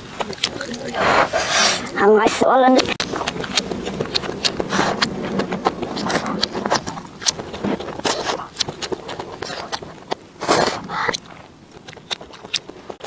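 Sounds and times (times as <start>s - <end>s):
wet chewing and mouth smacks: 0.0s - 2.0s, 2.7s - 13.0s.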